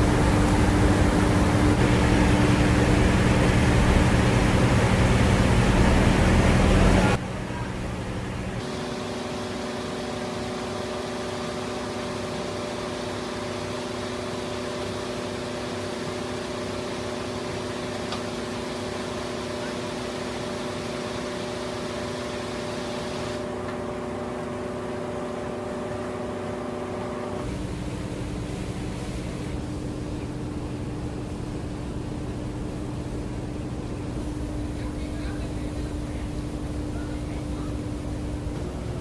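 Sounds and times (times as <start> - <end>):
hissing water wash: 0.0 - 23.4, 27.4 - 39.0
boat engine drone: 0.0 - 39.0.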